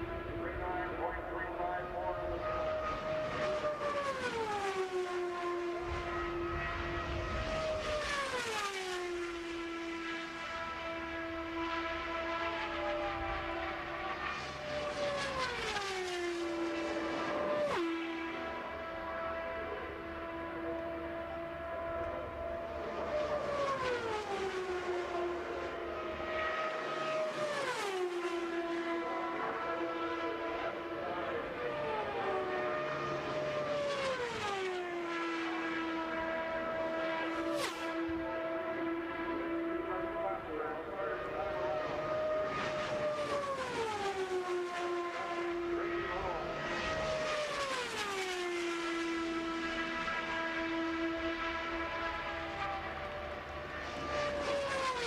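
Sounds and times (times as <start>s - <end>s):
race car passing at full throttle: 0.0s - 55.0s.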